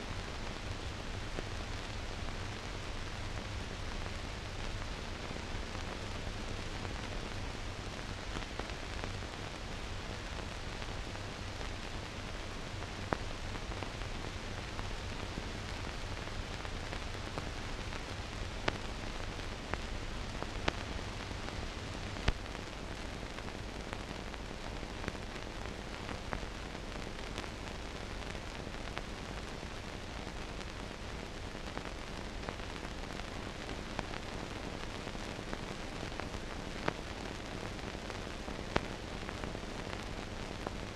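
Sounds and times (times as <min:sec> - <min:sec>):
steady film hiss: 0:00.0 - 0:40.9.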